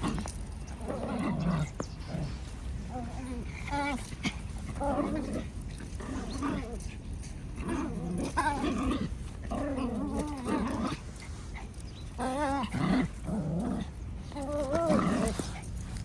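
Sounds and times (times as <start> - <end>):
dog whiny grumbling: 0.0 - 16.0.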